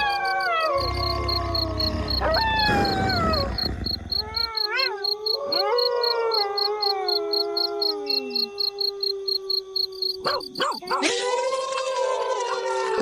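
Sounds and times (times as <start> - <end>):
wolves howling: 0.0 - 11.2.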